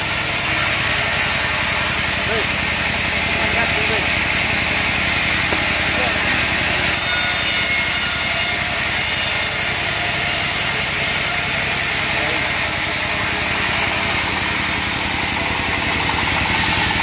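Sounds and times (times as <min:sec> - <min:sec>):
band saw rasping through log: 0:00.0 - 0:17.0
diesel engine drone: 0:00.0 - 0:17.0.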